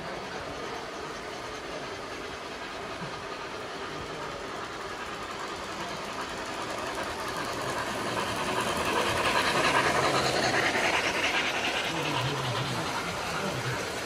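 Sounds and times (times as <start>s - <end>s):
model steam locomotive running: 0.0s - 14.0s.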